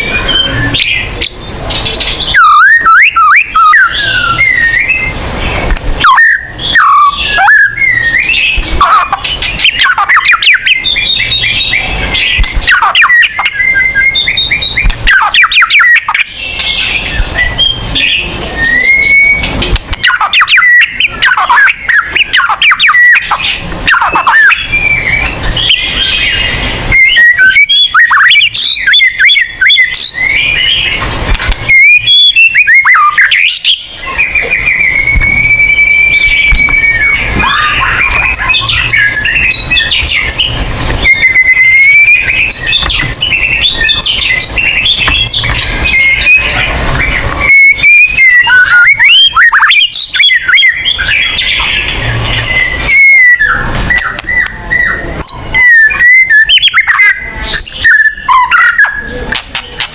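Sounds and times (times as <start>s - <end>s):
bird singing whistles and trills: 0.0s - 59.8s.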